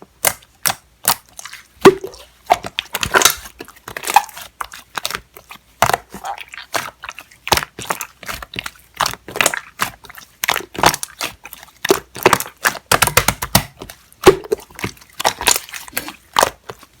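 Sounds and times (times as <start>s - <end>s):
hands squishing slime: 0.0s - 17.0s.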